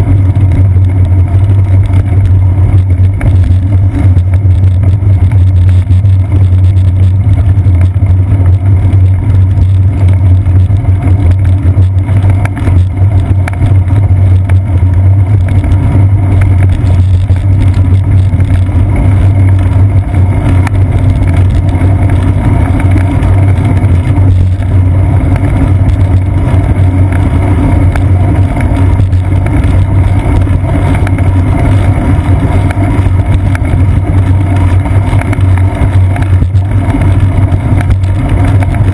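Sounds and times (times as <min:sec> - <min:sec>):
bicycle road and frame vibration: 0:00.0 - 0:38.9
wind over camera: 0:00.0 - 0:38.9.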